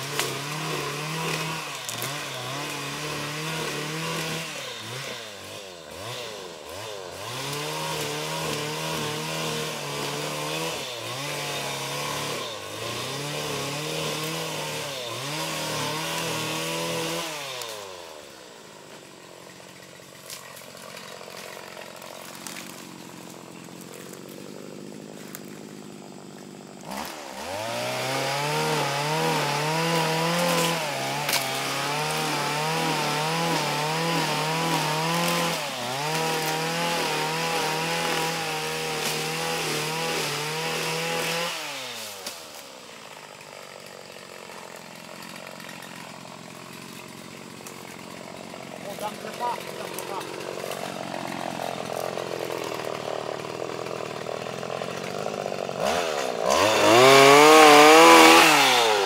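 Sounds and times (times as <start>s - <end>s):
small petrol engine revving: 0.0s - 18.6s, 20.2s - 42.8s, 44.9s - 59.0s.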